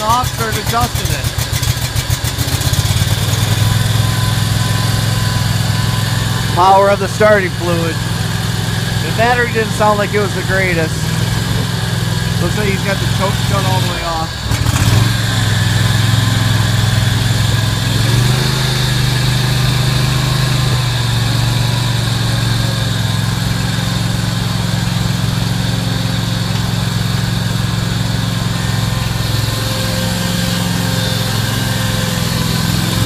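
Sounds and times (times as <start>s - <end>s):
mower engine running: 0.0s - 33.0s.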